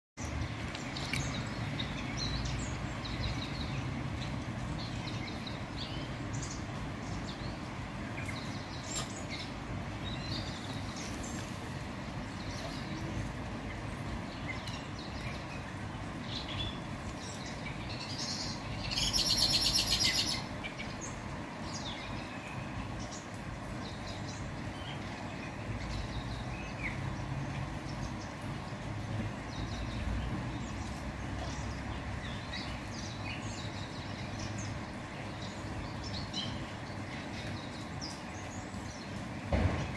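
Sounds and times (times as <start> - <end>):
songbirds chirping: 0.2 - 39.9.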